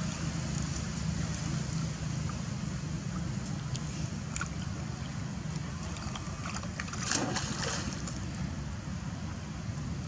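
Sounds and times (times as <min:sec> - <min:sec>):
water splashing and lapping: 0:00.0 - 0:08.5.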